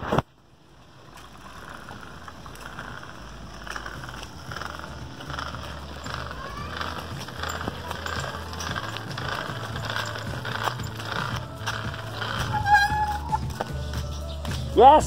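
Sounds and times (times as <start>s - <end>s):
faint hissy outdoor noise: 0.0s - 12.4s.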